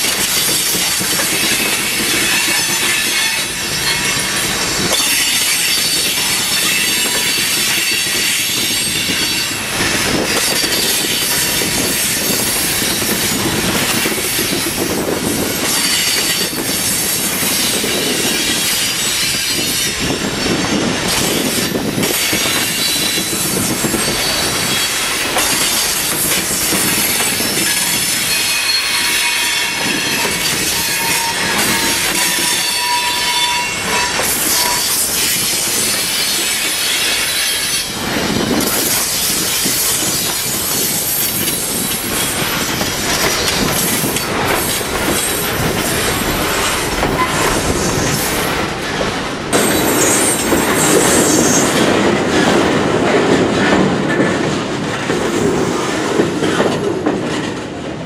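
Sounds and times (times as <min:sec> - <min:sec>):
train wheels squealing: 0:00.0 - 0:38.0, 0:38.6 - 0:48.5, 0:49.6 - 0:51.8
rumble of train cars: 0:00.0 - 0:58.0.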